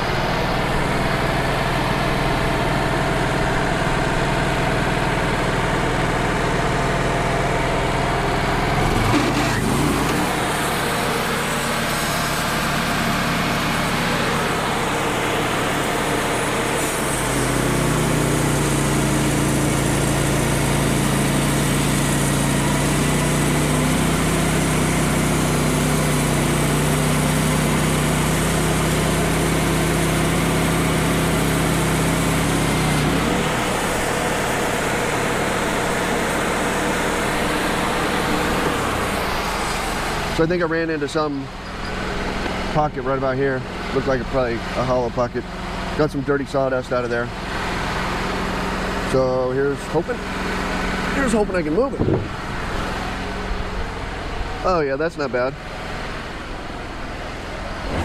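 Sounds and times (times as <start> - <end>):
band sawmill cutting a log: 0.0 - 58.0.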